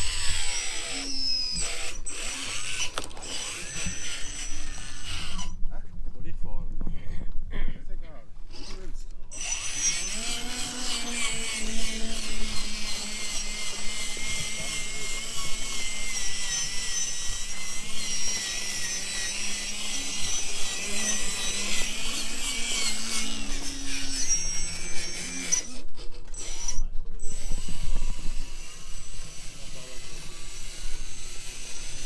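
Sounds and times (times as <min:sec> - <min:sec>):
electric motor whining: 0:00.0 - 0:05.6, 0:08.4 - 0:32.0
steady low hum: 0:00.0 - 0:32.0.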